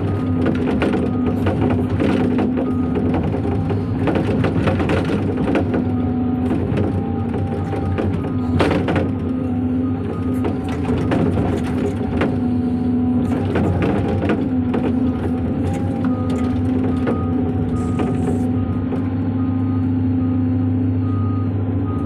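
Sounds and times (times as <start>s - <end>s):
knocks and clanks: 0.0s - 9.4s, 10.0s - 12.6s, 13.2s - 19.1s
diesel engine running: 0.0s - 22.0s.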